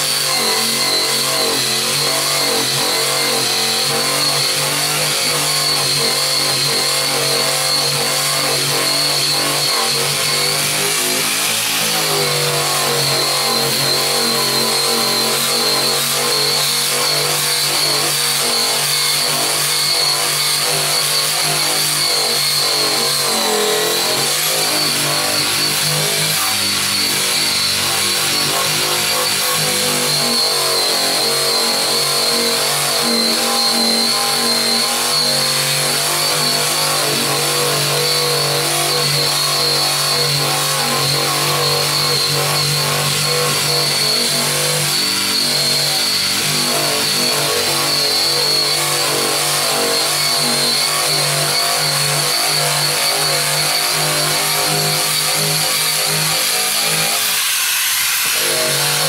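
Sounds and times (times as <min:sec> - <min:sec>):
abrasive disc grinding paint: 0:00.0 - 0:59.0.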